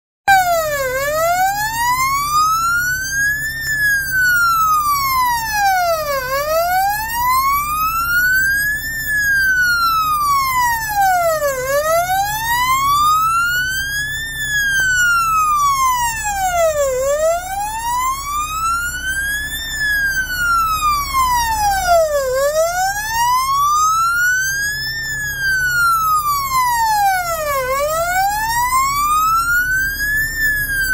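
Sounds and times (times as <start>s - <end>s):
fire engine siren wailing: 0.3s - 30.9s.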